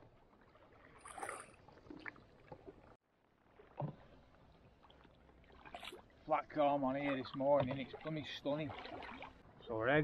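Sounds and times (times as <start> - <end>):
paddle dips and drips: 0.0 - 9.6.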